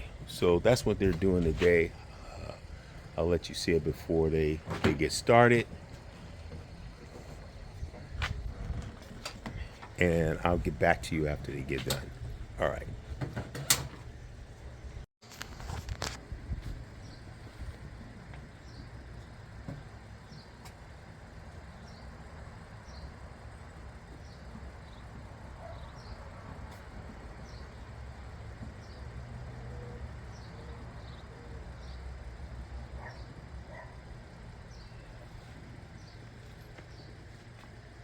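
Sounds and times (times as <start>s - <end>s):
distant traffic rumble: 0.0s - 15.1s, 15.9s - 38.0s.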